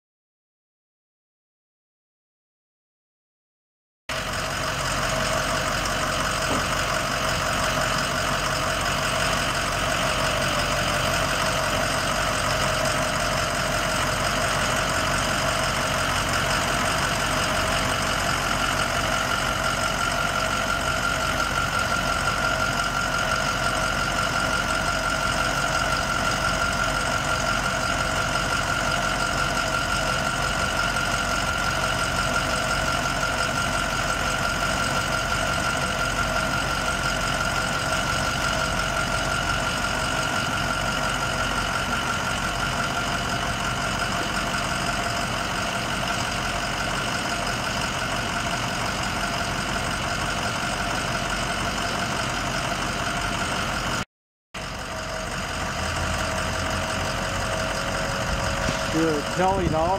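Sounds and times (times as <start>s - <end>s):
diesel engine idling: 4.1s - 59.9s.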